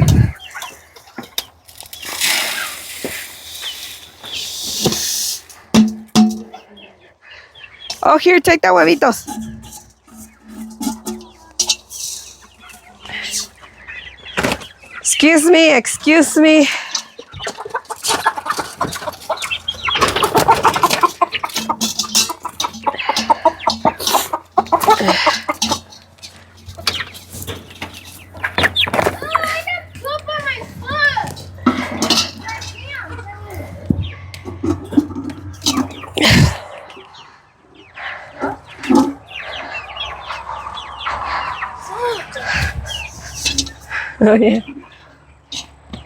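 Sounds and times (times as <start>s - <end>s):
chickens clucking and squawking: 0.0s - 46.0s.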